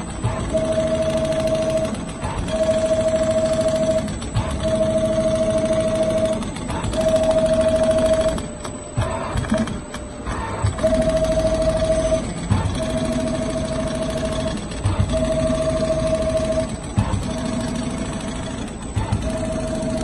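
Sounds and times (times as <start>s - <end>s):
sewing machine stitching leather: 0.0s - 20.0s.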